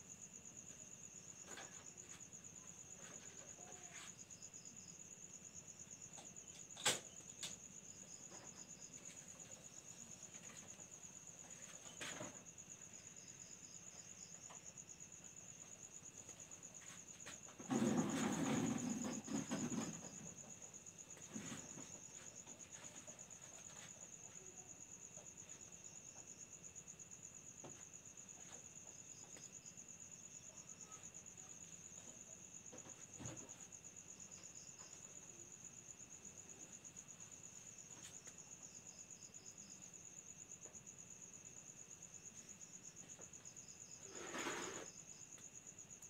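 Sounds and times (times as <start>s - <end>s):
crickets chirping: 0.0s - 46.0s
insect trill: 0.0s - 46.0s.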